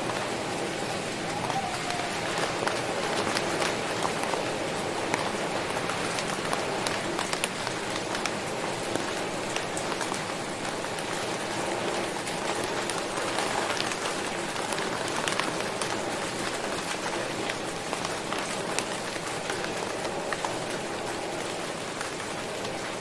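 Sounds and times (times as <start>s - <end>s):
rain patter: 0.0s - 23.0s
raindrops ticking on a hard surface: 0.0s - 23.0s.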